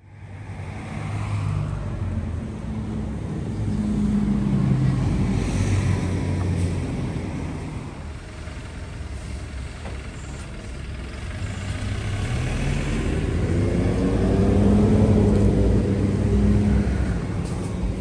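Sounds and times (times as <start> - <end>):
bus engine: 0.0 - 18.0
vehicle engine hum: 0.0 - 18.0.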